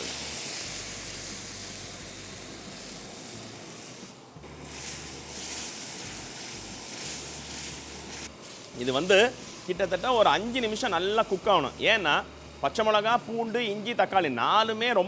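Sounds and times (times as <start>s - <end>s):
paste sizzling in hot oil: 0.0s - 14.4s.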